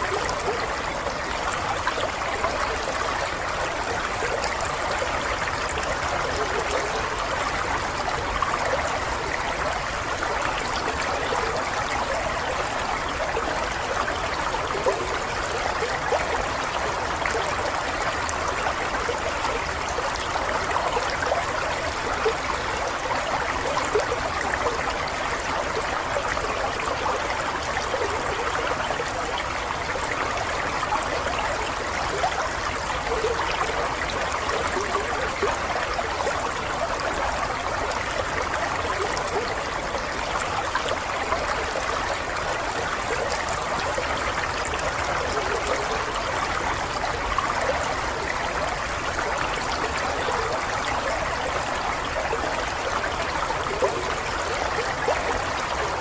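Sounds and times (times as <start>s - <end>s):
running water babbling: 0.0s - 56.0s.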